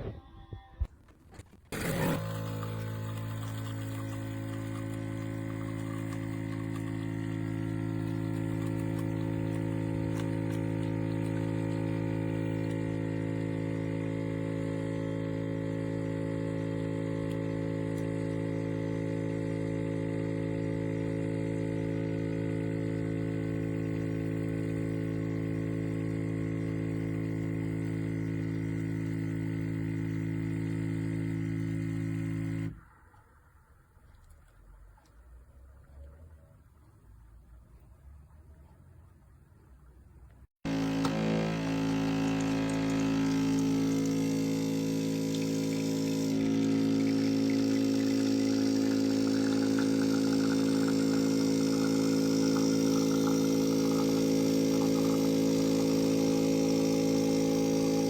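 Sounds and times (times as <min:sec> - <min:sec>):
coffee machine pump humming: 0:01.4 - 0:32.8, 0:40.6 - 0:58.0.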